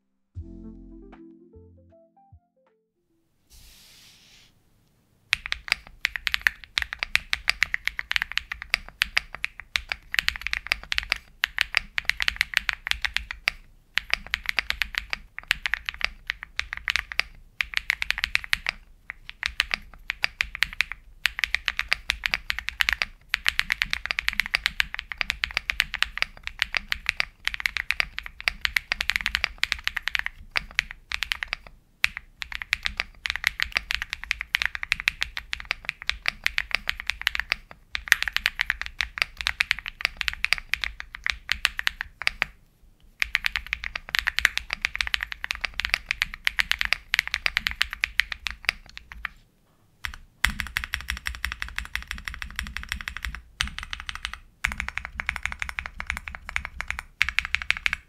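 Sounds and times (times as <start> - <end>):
fast mechanical keyboard typing: 5.3 - 42.5, 43.2 - 49.4, 50.0 - 58.0.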